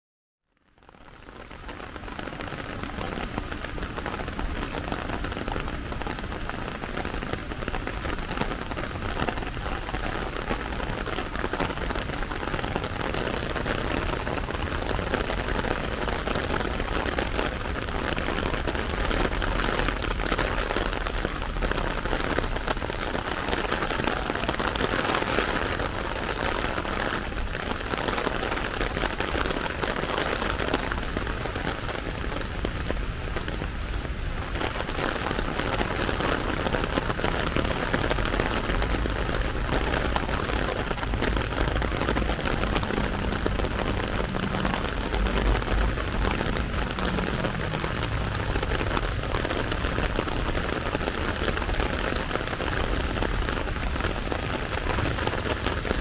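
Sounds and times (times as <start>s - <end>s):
rain falling on wet pavement: 0.5s - 56.0s
rain pattering on an umbrella: 0.5s - 56.0s.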